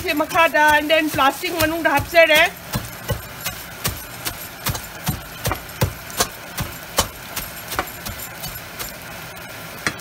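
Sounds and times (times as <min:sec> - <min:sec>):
food pounded in plastic bag: 0:00.0 - 0:09.1.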